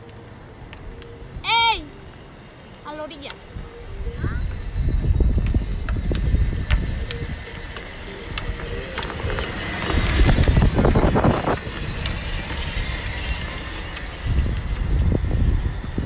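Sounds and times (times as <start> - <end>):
electric motors whining: 0.0 - 16.0
wheels rolling on road: 0.0 - 16.0.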